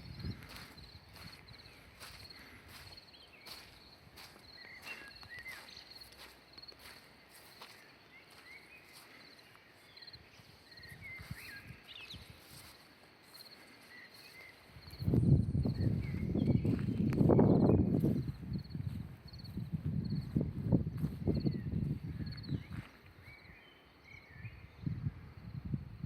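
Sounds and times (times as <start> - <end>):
soft footsteps on a path: 0.0 - 23.8
insect chirping trills: 0.0 - 25.7.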